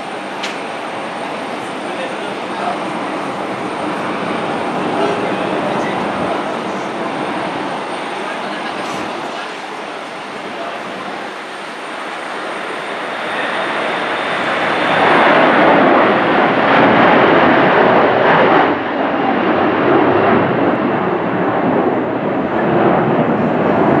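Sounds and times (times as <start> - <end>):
jet engines roaring at takeoff: 0.0 - 24.0.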